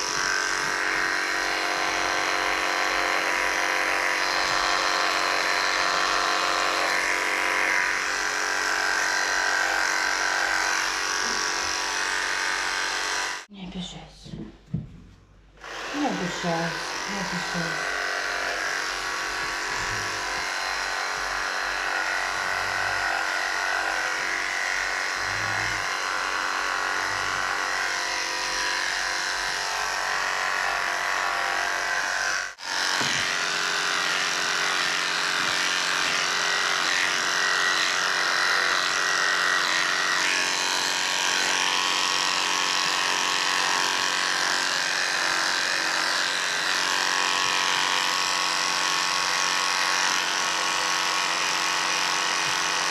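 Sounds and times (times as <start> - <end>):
electric clippers buzzing: 0.0 - 13.5, 15.6 - 52.9.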